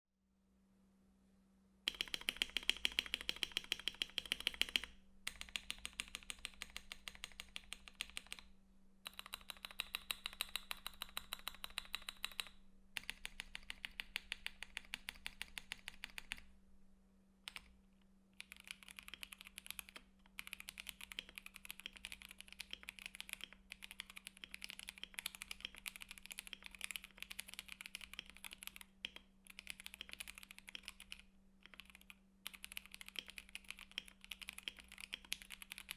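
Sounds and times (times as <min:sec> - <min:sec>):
faint steady hum: 0:00.3 - 0:35.9
mechanical keyboard typing: 0:01.9 - 0:08.5, 0:09.1 - 0:16.5, 0:17.5 - 0:17.8, 0:18.4 - 0:35.9.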